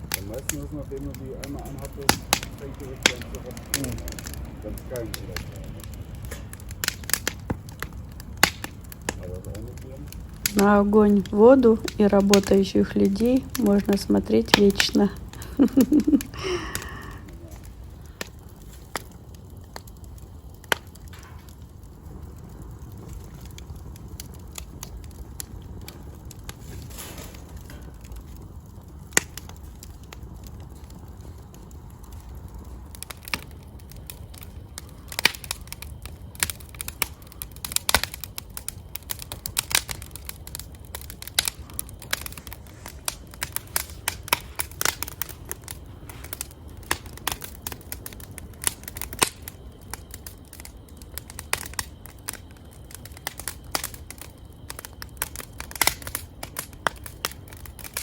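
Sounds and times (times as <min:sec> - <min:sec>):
low steady rumble: 0:00.0 - 0:58.0
wood fire crackling and popping: 0:00.0 - 0:58.0.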